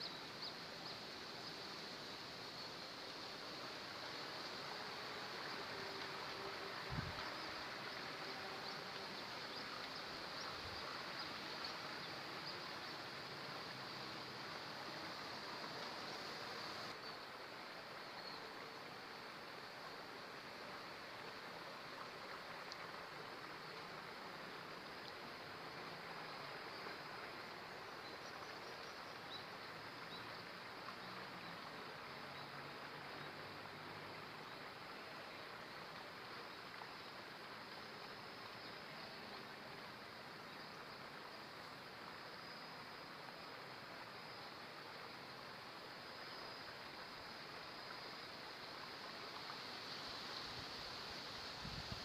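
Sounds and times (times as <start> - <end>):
flowing river water: 0.0 - 52.0
insects chirping: 0.0 - 52.0
outdoor noise wash: 0.0 - 52.0.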